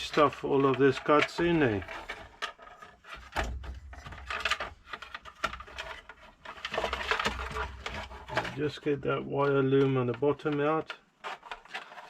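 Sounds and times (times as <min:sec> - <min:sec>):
wires and plastic parts handled: 0:00.0 - 0:12.0.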